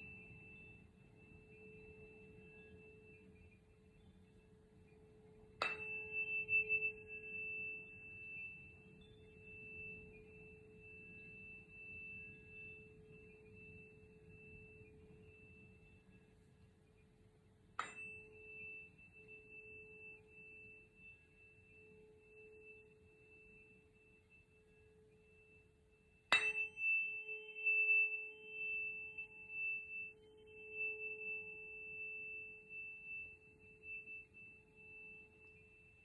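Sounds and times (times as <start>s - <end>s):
tuning fork ringing: 0.0s - 36.0s.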